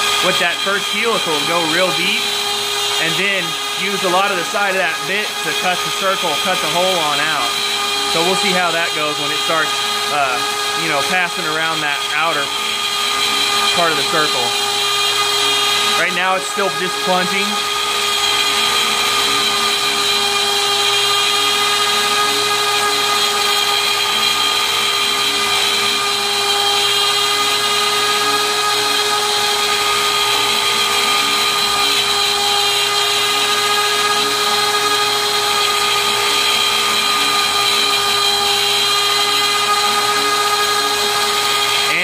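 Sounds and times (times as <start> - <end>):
router cutting aluminum: 0.0 - 42.0.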